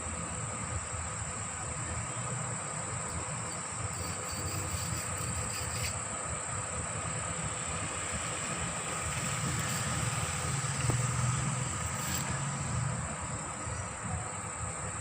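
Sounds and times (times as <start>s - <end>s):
crickets chirping: 0.0s - 15.0s
distant vehicle rumble: 0.0s - 15.0s.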